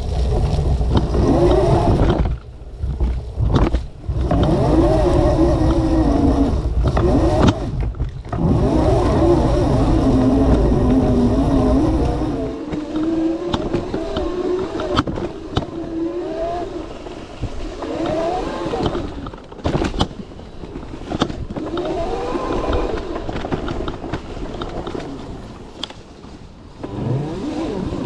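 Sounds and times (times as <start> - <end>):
sharp knocks and clicks from bike: 0.0 - 5.9, 6.7 - 11.2, 11.8 - 15.9, 16.5 - 27.0
electric dirt bike drivetrain whining: 0.0 - 28.0.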